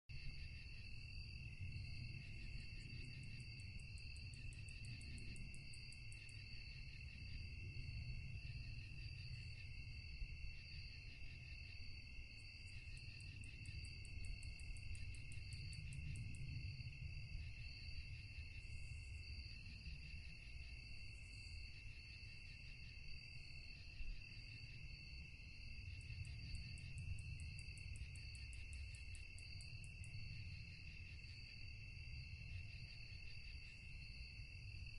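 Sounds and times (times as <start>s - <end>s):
crickets chirping: 0.1s - 34.9s
rapidly pulsing insect call: 0.1s - 34.9s.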